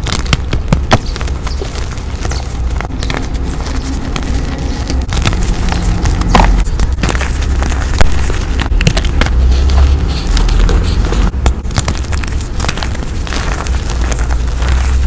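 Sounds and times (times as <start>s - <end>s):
chalk crunching and crackling: 0.0s - 15.0s
low rumble: 0.0s - 15.0s.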